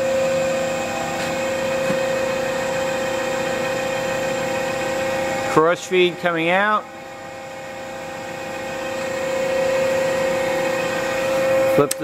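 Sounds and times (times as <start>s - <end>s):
lathe machine whine: 0.0s - 12.0s.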